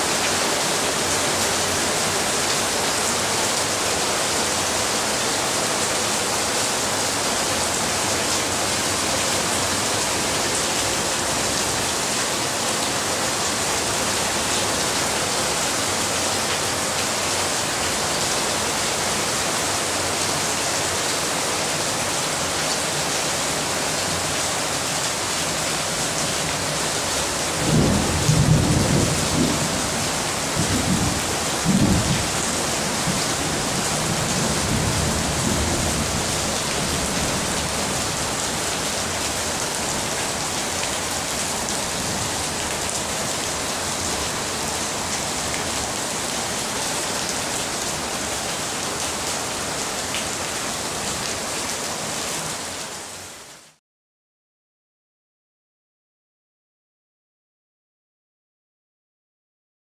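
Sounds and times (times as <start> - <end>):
heavy rain pouring: 0.0 - 53.8.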